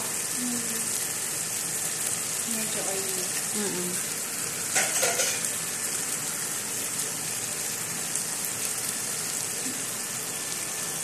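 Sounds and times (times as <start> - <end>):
beans sizzling in a frying pan: 0.0 - 11.0.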